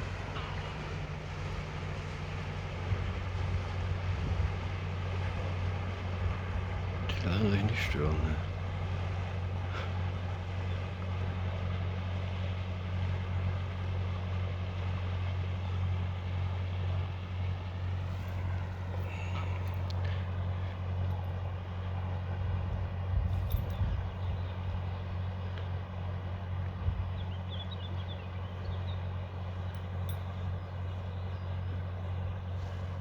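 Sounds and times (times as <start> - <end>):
low outdoor rumble with hiss: 0.0 - 33.0.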